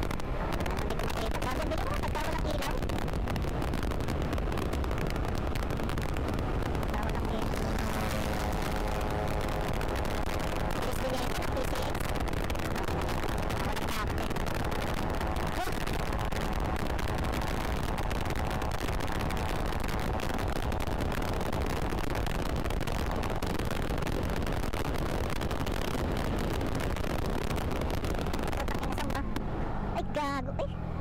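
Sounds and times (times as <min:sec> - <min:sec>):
wind buffeting microphone: 0:00.0 - 0:30.2
motorcycle road and engine noise: 0:00.0 - 0:31.0.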